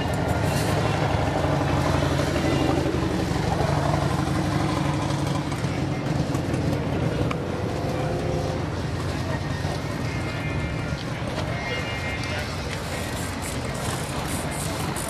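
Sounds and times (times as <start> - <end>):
motorcycle engine idling: 0.0 - 12.5.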